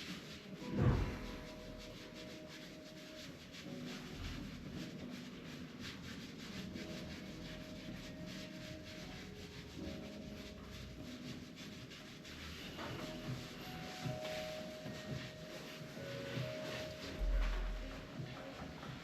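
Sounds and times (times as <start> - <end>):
hands rubbing over body: 0.0 - 19.0.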